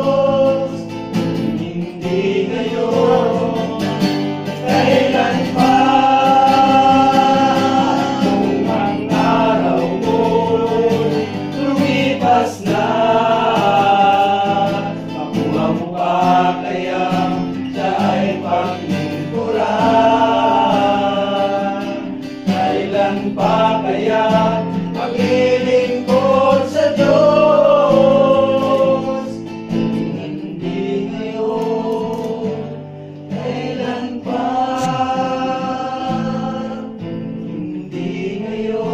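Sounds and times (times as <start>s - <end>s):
men singing together: 0.0s - 38.9s.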